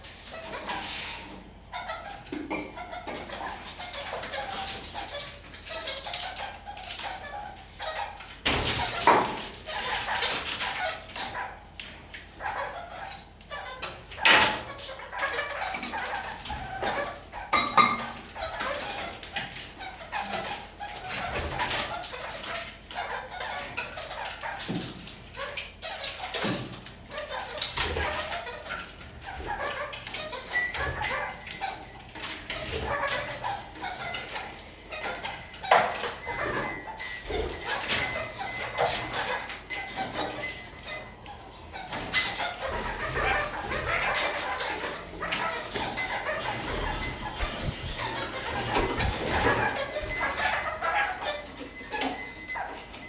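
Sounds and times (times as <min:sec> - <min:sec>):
parakeets chattering and calling: 0:00.0 - 0:53.0.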